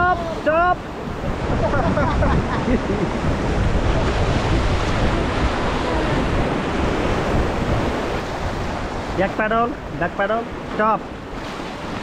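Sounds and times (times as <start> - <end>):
rushing whitewater: 0.0 - 12.0
wind buffeting microphone: 0.0 - 12.0.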